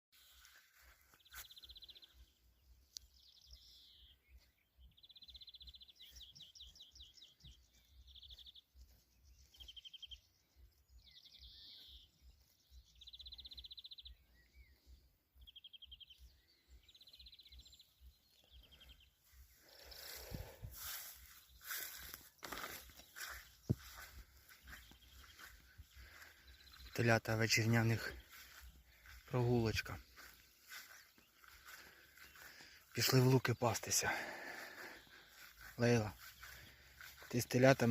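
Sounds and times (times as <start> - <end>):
songbird singing trills: 0.2 - 37.9.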